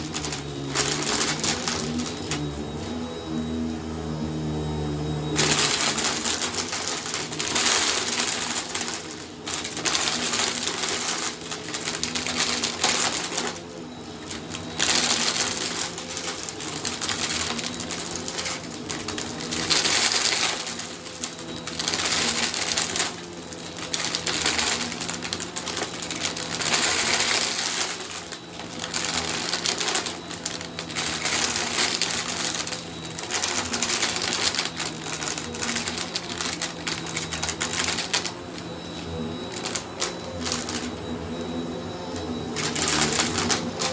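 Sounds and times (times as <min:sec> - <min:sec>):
vacuum cleaner on rug: 0:00.0 - 0:43.9.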